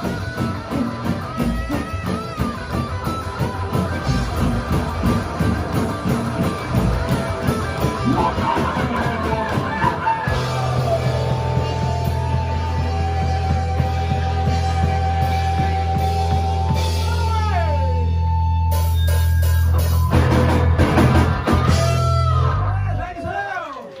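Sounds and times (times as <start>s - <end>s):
bass guitar: 0.0s - 23.4s
drum kit: 0.0s - 23.4s
electric guitar: 0.0s - 24.0s.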